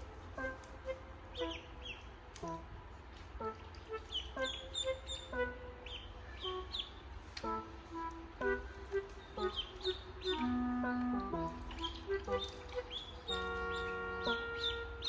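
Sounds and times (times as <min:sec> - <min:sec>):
ducklings peeping: 0:00.4 - 0:02.6, 0:03.4 - 0:15.0.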